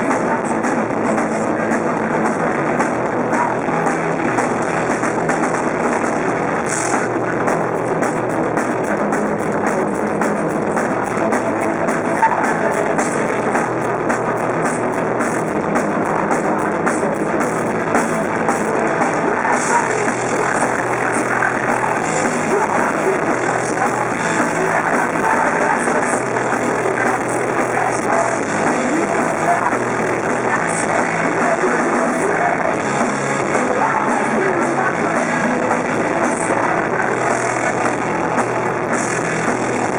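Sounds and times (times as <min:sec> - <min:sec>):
person singing: 0:00.0 - 0:08.1, 0:08.8 - 0:39.9
bass guitar: 0:00.0 - 0:39.9
distorted electric guitars: 0:00.0 - 0:39.9
drum kit: 0:00.0 - 0:39.9.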